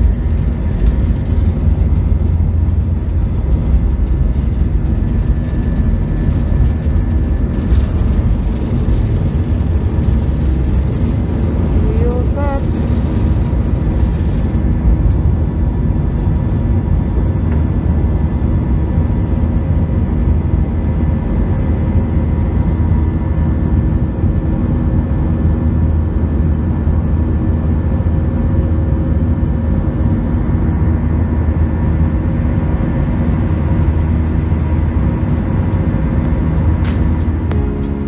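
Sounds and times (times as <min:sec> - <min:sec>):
engine and airflow rumble: 0:00.0 - 0:38.0.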